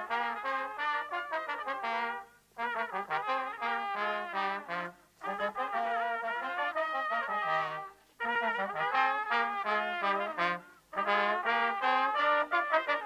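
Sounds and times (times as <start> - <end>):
brass ensemble playing a tune: 0.0 - 13.0.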